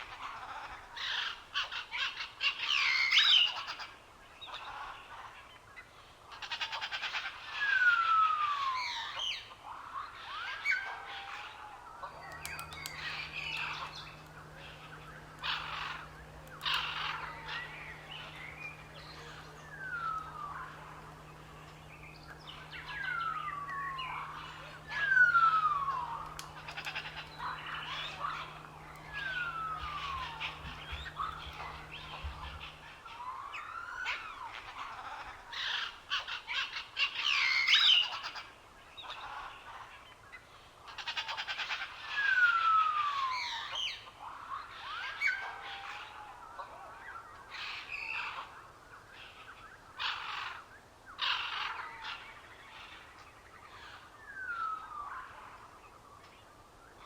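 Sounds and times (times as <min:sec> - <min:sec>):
birds chirping and calling: 0:00.0 - 0:57.0
faint low hum: 0:00.0 - 0:57.0.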